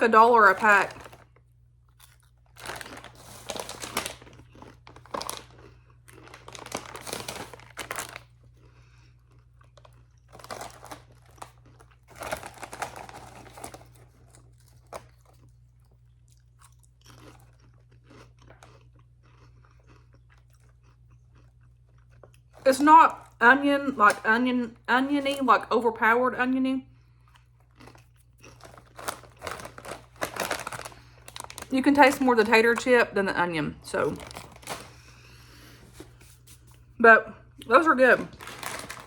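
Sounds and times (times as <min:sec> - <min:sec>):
person crunching potato chips: 0:00.0 - 0:23.4, 0:27.0 - 0:32.9, 0:34.0 - 0:36.9, 0:37.6 - 0:39.0.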